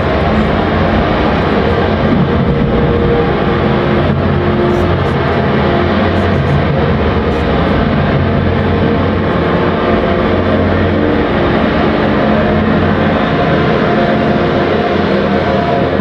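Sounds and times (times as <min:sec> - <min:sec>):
electronic synthesizer drone: 0:00.0 - 0:16.0.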